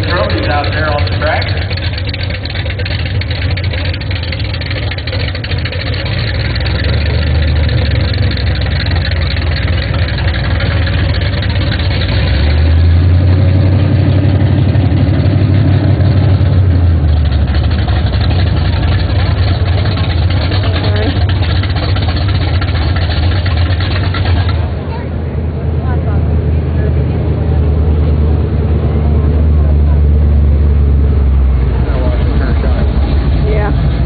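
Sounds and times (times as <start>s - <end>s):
pickup truck engine idling: 0.0s - 34.0s.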